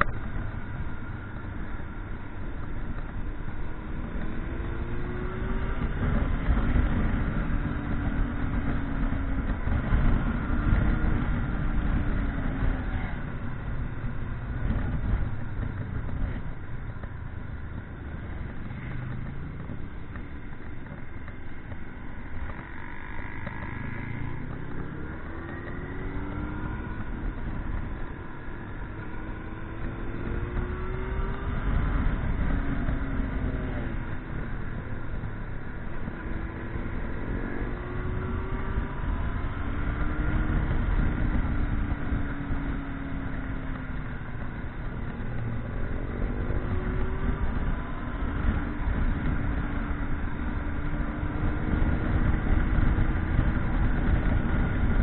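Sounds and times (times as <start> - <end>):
motorcycle engine: 0.0 - 55.0
wind and road noise: 0.0 - 55.0.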